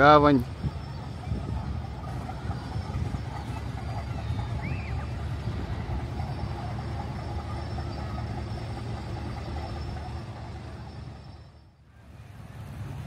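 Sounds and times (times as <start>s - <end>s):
boat engines rumbling: 0.0s - 13.0s.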